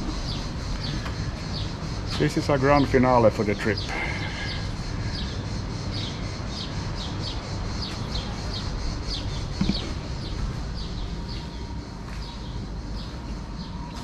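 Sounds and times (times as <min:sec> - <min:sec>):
bird chirping: 0:00.0 - 0:14.0
steady low rumble: 0:00.0 - 0:14.0.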